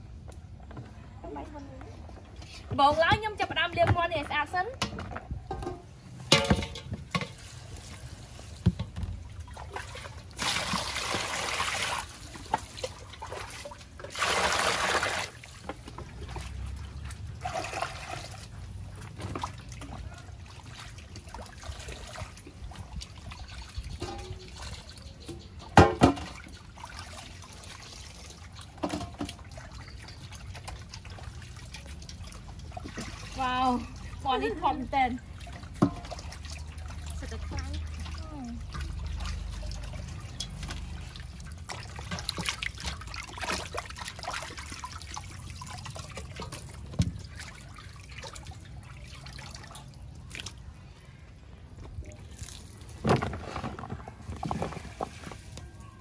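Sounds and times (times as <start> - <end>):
water splashing and trickling: 0.0 - 56.0
rushes of water: 7.2 - 25.2, 26.1 - 56.0.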